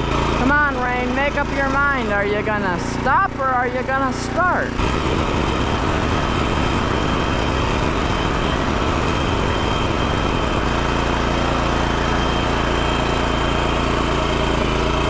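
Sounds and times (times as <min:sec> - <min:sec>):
rototiller engine running: 0:00.0 - 0:15.0.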